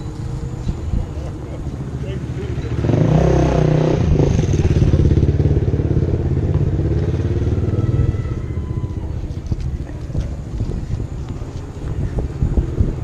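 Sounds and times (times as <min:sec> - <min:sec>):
vehicle engine pulsing: 0:00.0 - 0:13.0.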